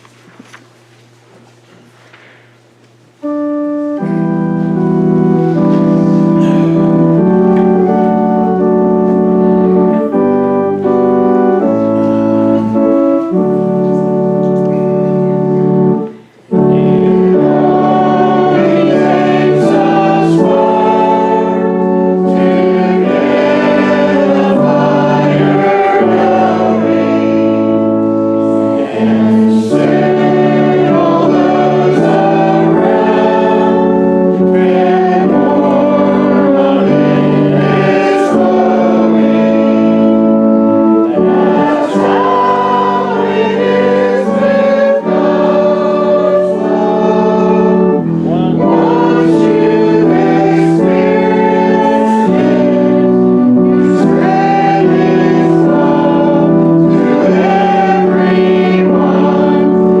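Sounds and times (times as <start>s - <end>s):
instrumental accompaniment: 3.0s - 60.0s
congregation singing a hymn: 3.2s - 60.0s.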